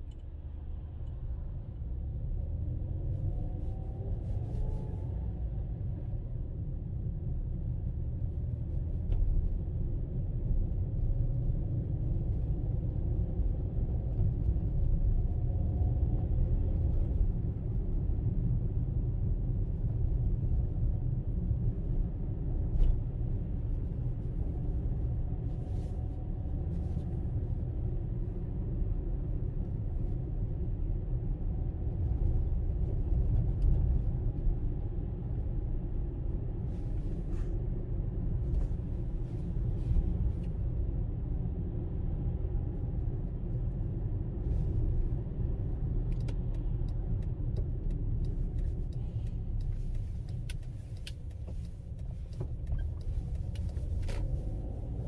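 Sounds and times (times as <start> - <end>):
vehicle driving on road: 0.0 - 55.0.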